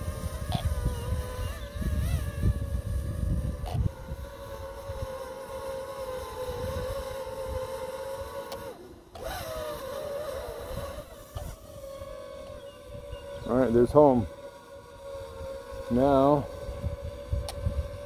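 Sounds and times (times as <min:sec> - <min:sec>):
wind rumble on microphone: 0:00.0 - 0:08.2, 0:10.6 - 0:14.3, 0:15.2 - 0:18.0
drone propellers whining: 0:00.0 - 0:18.0.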